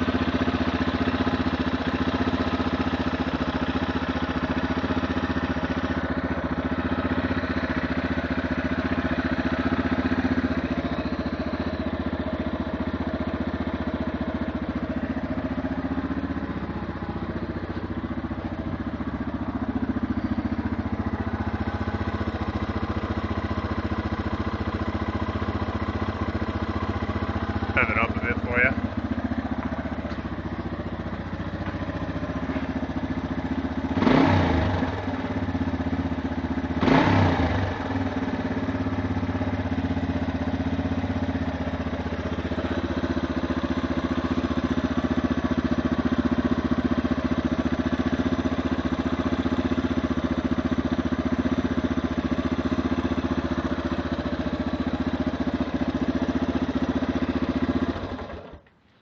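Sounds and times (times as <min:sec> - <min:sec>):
engine rattling and ticking: 0:00.0 - 0:59.0
motorcycle engine idling and revving: 0:00.0 - 0:59.0.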